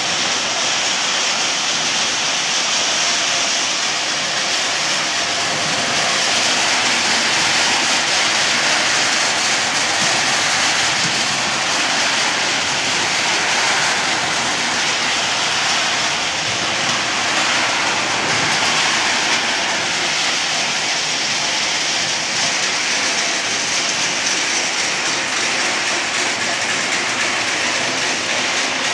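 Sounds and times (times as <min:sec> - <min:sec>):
nuts rattling in rotating drum: 0:04.1 - 0:28.9.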